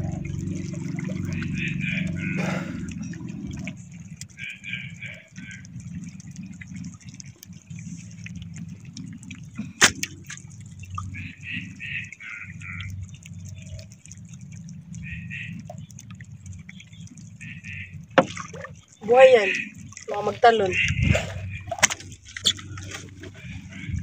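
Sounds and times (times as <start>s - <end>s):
water dripping and splashing: 0.0s - 24.0s.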